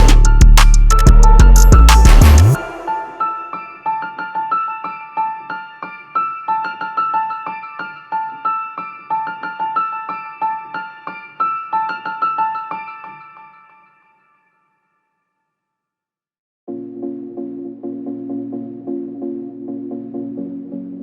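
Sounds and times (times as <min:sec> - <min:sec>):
light keyboard melody: 0:00.0 - 0:13.8, 0:16.7 - 0:21.0.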